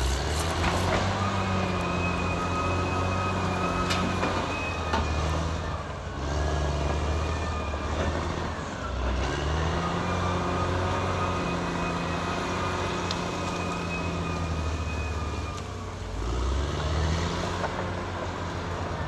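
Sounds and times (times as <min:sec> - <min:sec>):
bulldozer diesel engine: 0:00.0 - 0:19.0.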